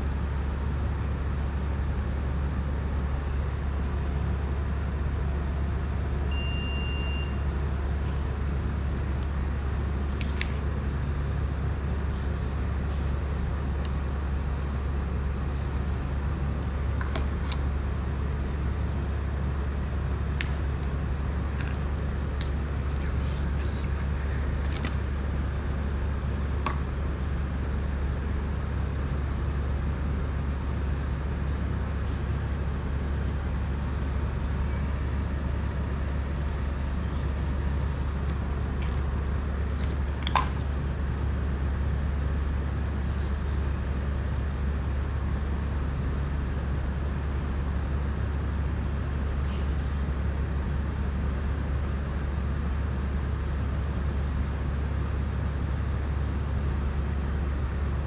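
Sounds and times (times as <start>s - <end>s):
low hum and hiss: 0.0s - 58.0s.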